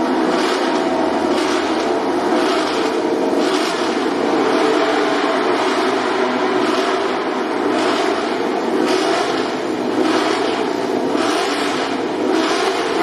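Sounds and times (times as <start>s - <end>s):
racing motorcycle engines running: 0.0s - 13.0s.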